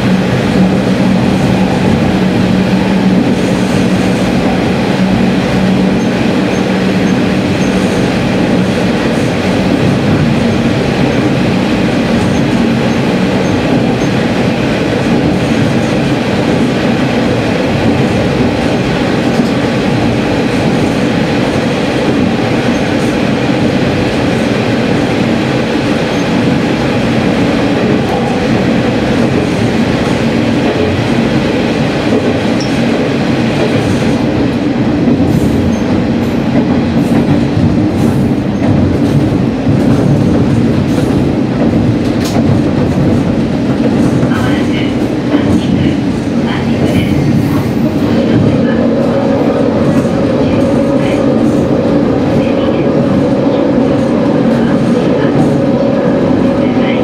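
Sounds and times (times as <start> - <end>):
train rumbling through tunnel: 0.0 - 57.0.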